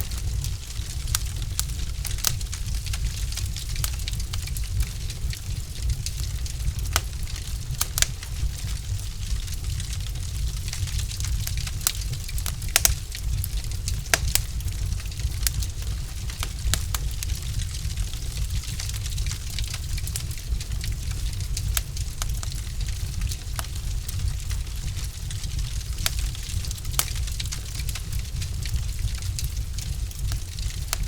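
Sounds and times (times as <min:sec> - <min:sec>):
fire low rumble: 0:00.0 - 0:31.0
logs crackling and popping: 0:00.0 - 0:31.0.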